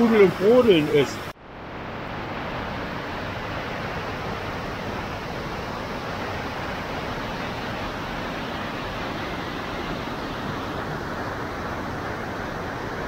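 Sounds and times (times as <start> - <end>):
floodwater rushing over weir: 0.0 - 13.0.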